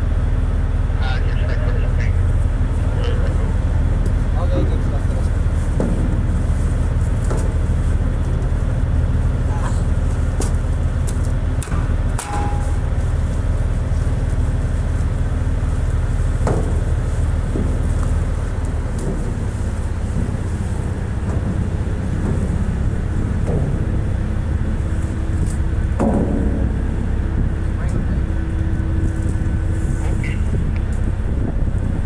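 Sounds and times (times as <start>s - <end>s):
ship diesel engine drone: 0.0s - 32.0s.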